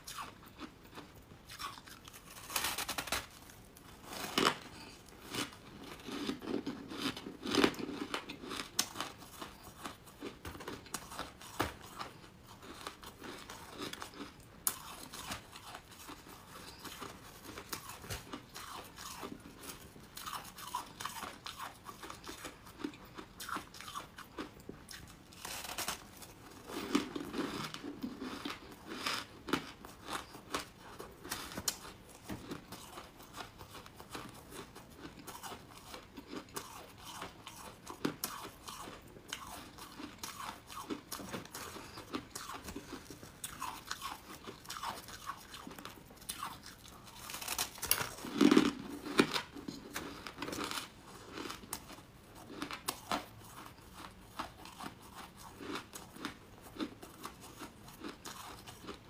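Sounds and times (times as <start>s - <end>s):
crunching and chewing: 0.0s - 59.0s.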